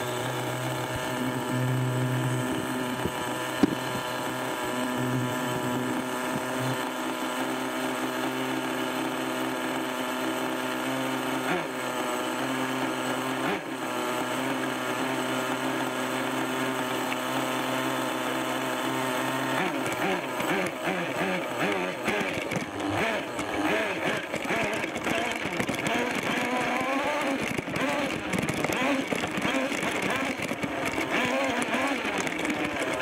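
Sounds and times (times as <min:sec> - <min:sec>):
small nitro engine idling and revving: 0:00.0 - 0:33.0.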